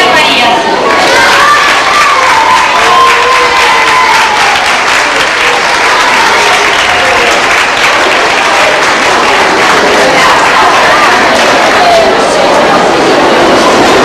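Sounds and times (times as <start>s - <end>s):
crowd applauding: 0.8s - 14.0s.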